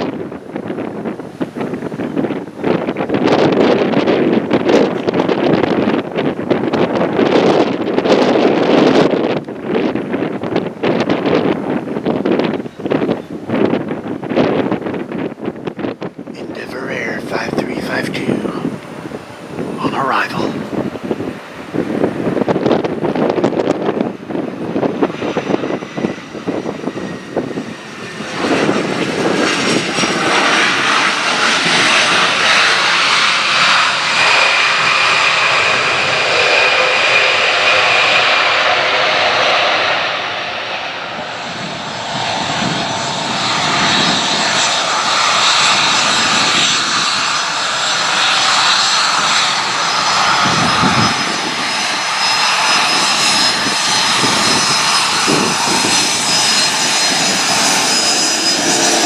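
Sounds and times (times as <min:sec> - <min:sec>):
jet engines rushing and whining: 0:00.0 - 0:59.0.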